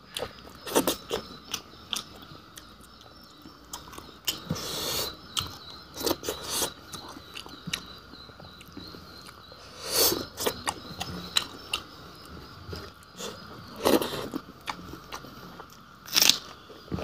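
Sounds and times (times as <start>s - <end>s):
person chewing and crunching food: 0.0s - 17.0s.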